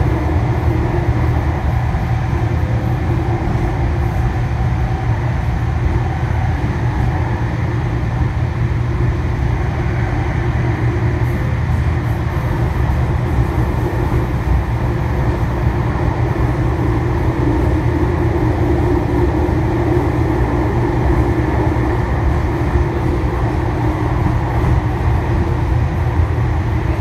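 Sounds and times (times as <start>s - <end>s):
droning hum: 0.0s - 27.0s
moving train rumble: 0.0s - 27.0s.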